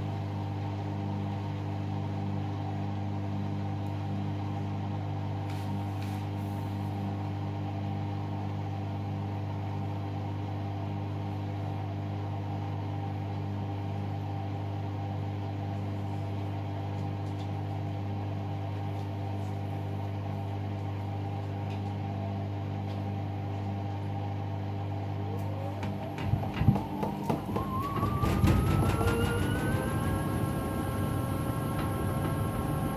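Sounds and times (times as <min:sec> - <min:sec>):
washer-dryer humming: 0:00.0 - 0:32.9.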